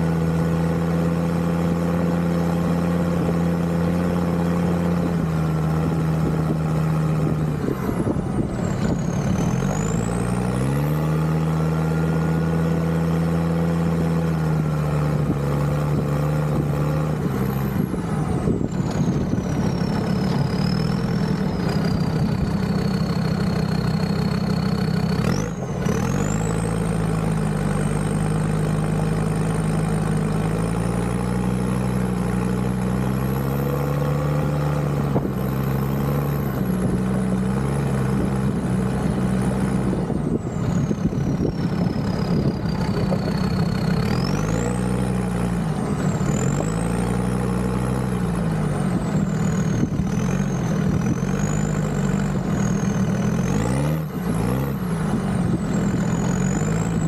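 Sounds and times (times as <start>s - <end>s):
diesel engine driving: 0.0s - 57.0s.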